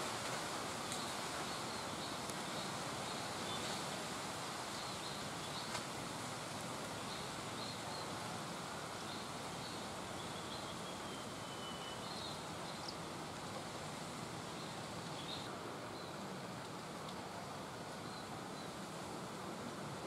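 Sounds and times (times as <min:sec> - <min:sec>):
constant hiss: 0:00.0 - 0:20.0.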